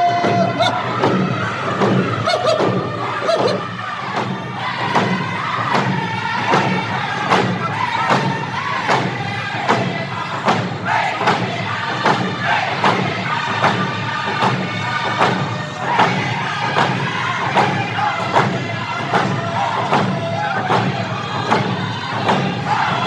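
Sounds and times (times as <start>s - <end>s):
crowd singing along: 0.0s - 23.0s.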